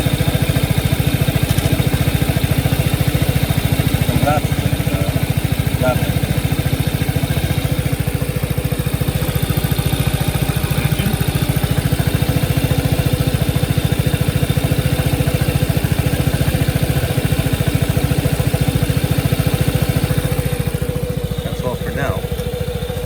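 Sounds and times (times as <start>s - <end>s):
scooter engine idling: 0.0s - 23.0s.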